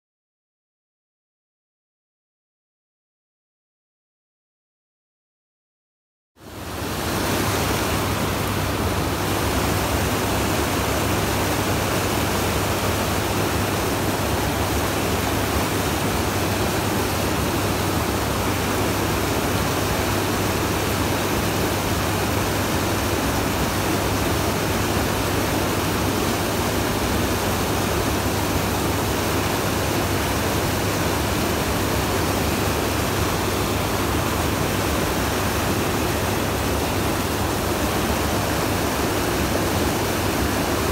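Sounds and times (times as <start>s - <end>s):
river water rushing through rapids: 6.4s - 40.9s.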